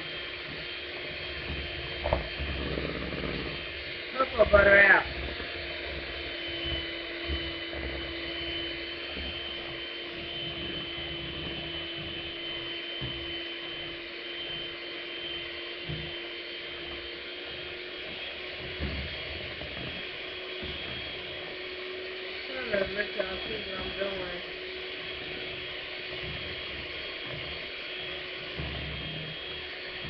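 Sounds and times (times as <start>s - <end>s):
electric hand mixer whirring: 0.0s - 30.0s.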